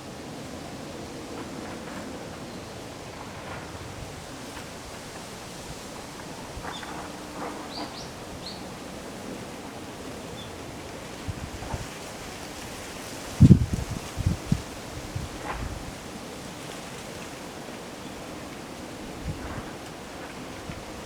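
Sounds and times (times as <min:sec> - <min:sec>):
wind rushing through trees: 0:00.0 - 0:21.0
wind buffeting microphone: 0:00.2 - 0:16.3, 0:18.8 - 0:21.0.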